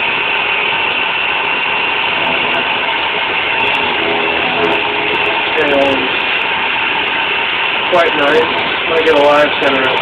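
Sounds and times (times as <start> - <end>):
milling spindle high whine: 0.0 - 10.0
rough metal cutting noise: 0.0 - 10.0.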